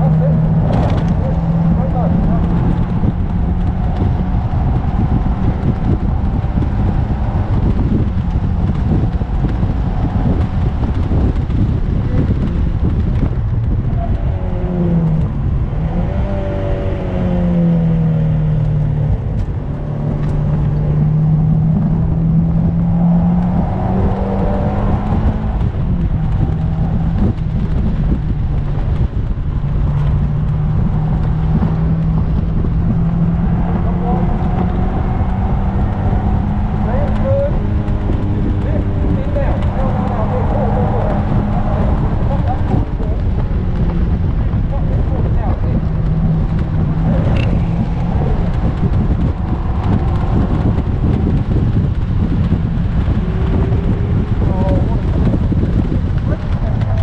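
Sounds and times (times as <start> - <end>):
car engine revving: 0.0 - 57.0
road rumble: 0.0 - 57.0
wind noise: 0.0 - 57.0.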